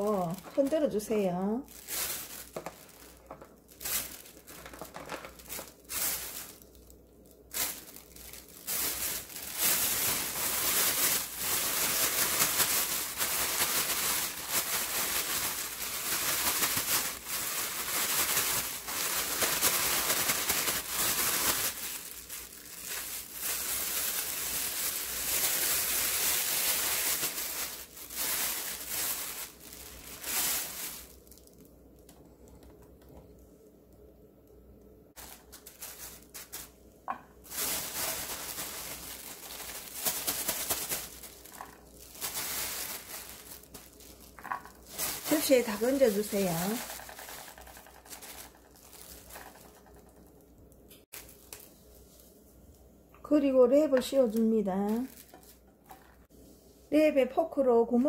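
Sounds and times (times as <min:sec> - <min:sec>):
plastic bag crinkling: 0:00.0 - 0:32.7, 0:35.2 - 0:52.2, 0:54.0 - 0:56.3.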